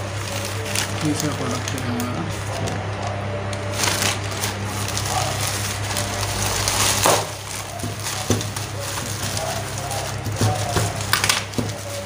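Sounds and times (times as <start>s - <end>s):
low background hum: 0.0s - 12.0s
plastic bag and bubble wrap crinkling: 0.0s - 12.0s.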